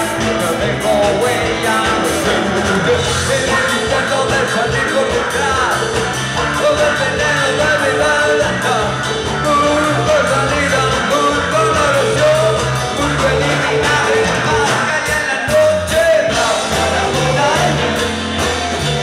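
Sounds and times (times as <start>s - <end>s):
live rock band playing: 0.0s - 19.0s
sliding melody line: 0.0s - 19.0s.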